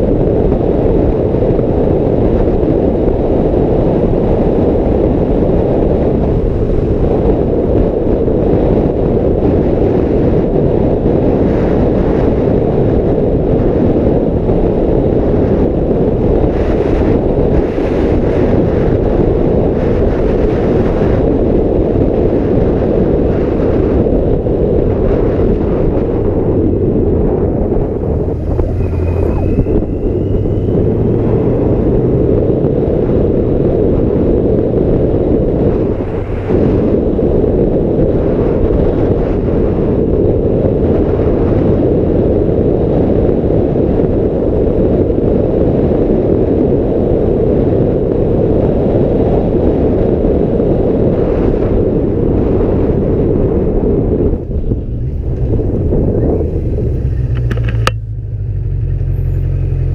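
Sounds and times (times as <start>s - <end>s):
motorcycle running: 0.0s - 59.9s
wind rushing over microphone: 0.0s - 59.9s.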